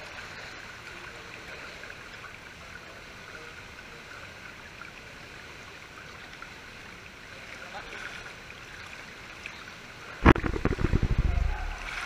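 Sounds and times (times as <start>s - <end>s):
pool water sloshing and lapping: 0.0s - 12.0s.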